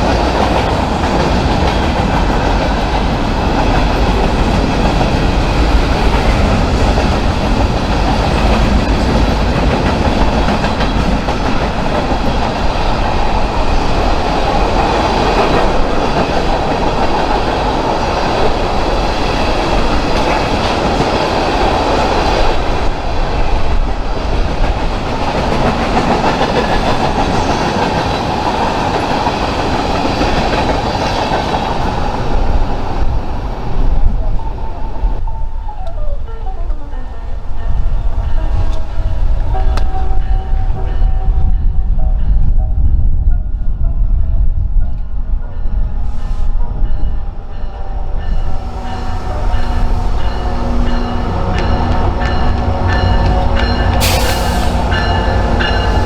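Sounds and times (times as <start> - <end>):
railroad cars rumbling past: 0.0 - 56.0.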